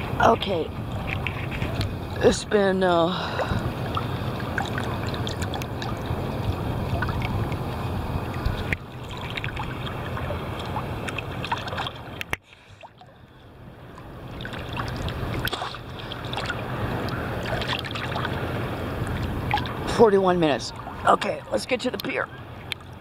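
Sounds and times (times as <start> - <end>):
sea water sloshing and splashing: 0.0 - 23.0.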